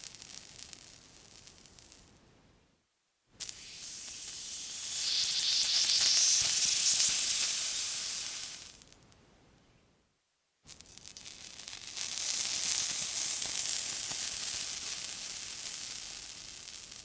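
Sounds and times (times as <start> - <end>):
water sizzling on hot surface: 0.0 - 2.1, 3.4 - 9.0, 10.9 - 17.0.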